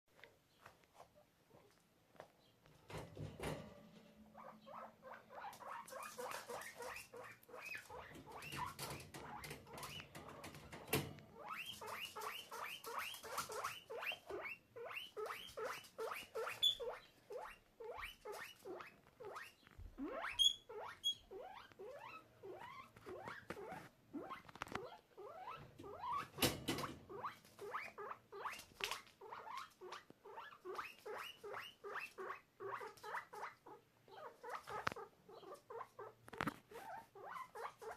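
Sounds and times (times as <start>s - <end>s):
guinea pig squeaking: 4.3s - 37.9s.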